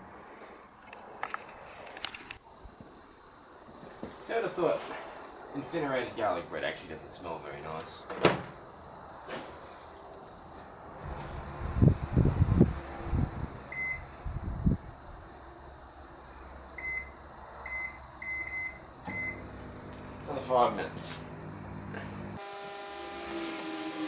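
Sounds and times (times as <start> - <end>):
crickets droning: 0.0 - 24.0.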